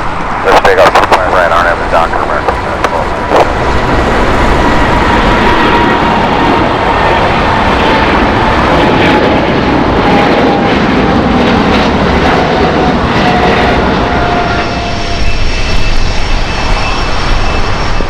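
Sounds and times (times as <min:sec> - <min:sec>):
deep jet rumble: 0:00.0 - 0:18.0
high jet engine whine: 0:00.0 - 0:18.0
jet engines roaring at takeoff: 0:00.0 - 0:18.0.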